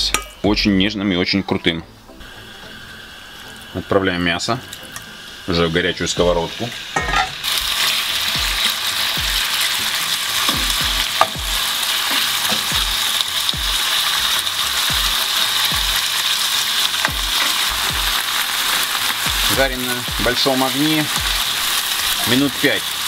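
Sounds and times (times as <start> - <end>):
meat sizzling in hot oil: 2.2 - 23.0.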